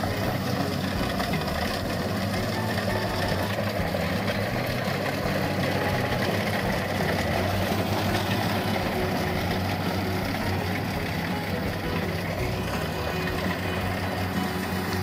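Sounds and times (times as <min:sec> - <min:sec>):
combine harvester engine running: 0:00.0 - 0:15.0.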